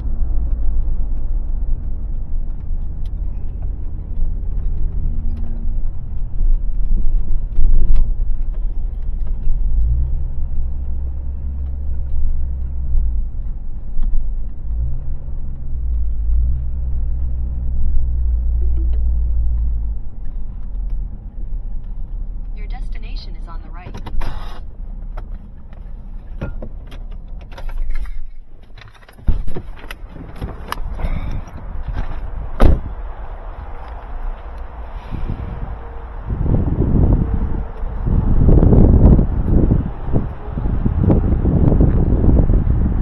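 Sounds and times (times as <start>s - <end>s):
vehicle engine drone: 0.0s - 43.0s.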